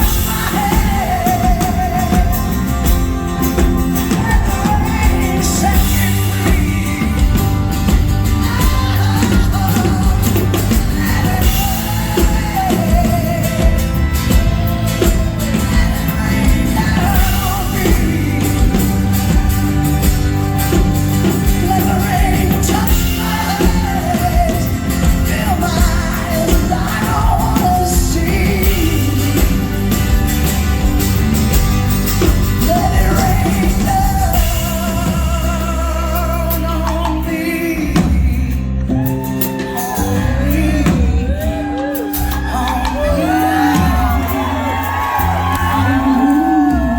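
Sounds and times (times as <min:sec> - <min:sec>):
woman singing wordless vocals: 0:00.0 - 0:02.8, 0:04.1 - 0:19.9, 0:21.2 - 0:30.1, 0:32.6 - 0:38.6, 0:39.8 - 0:46.9
live rock band playing: 0:00.0 - 0:46.9.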